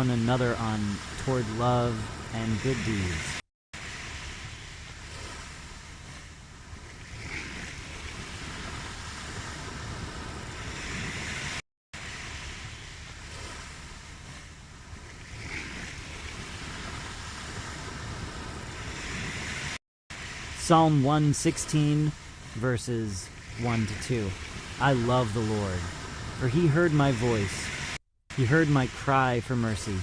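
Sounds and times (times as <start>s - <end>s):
ocean waves: 0.0s - 30.0s.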